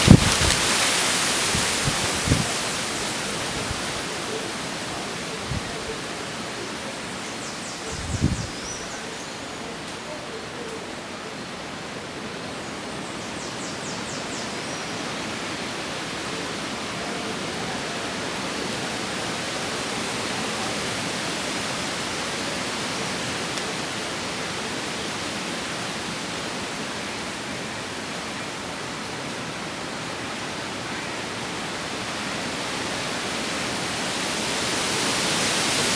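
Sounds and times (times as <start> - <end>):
wind rushing through foliage: 0.0 - 35.9.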